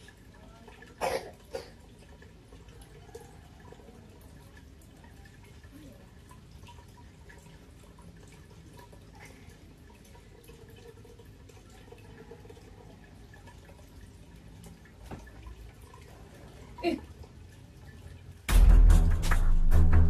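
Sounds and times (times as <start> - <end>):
dripping water: 0.0 - 18.5
aquarium bubbling: 0.0 - 18.9
aquarium filter running: 0.0 - 20.0.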